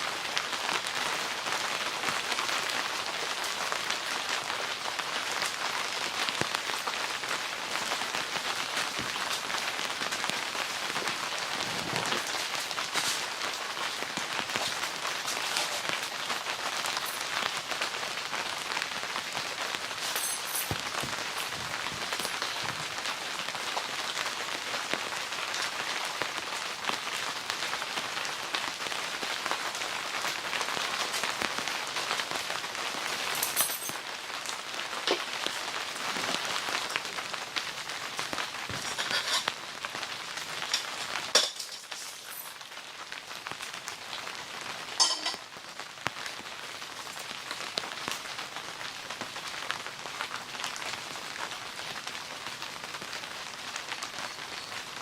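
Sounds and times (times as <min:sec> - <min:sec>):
raindrops striking a surface: 0:00.0 - 0:55.0
steady rain hissing: 0:00.0 - 0:55.0.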